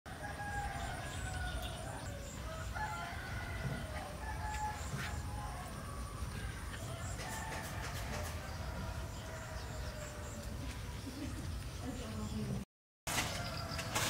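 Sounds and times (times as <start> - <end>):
roosters crowing: 0.1 - 11.5, 13.1 - 14.0.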